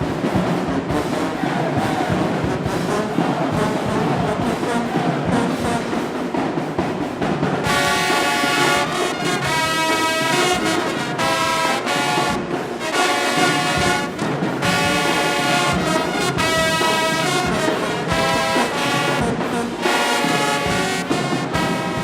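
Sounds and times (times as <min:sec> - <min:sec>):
brass band playing held chords: 0:00.0 - 0:22.0.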